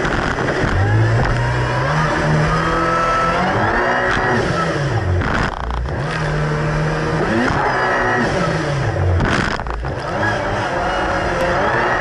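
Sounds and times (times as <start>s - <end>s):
jet ski engine running hard: 0.0s - 12.0s.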